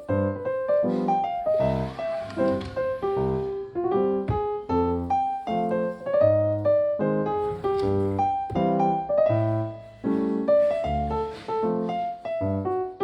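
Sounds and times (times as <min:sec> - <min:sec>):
light piano music: 0:00.0 - 0:13.0.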